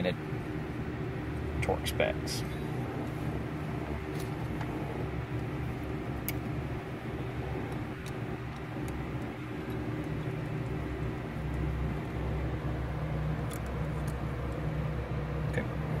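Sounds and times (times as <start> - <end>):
low workshop hum: 0.0 - 16.0.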